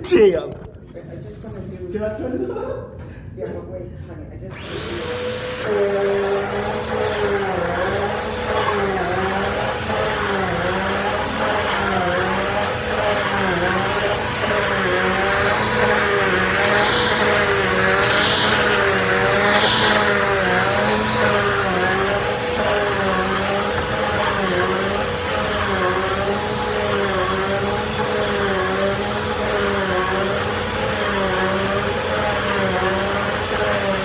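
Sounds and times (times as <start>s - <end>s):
vacuum cleaner motor whine: 4.5s - 34.0s
hissing: 4.6s - 34.0s.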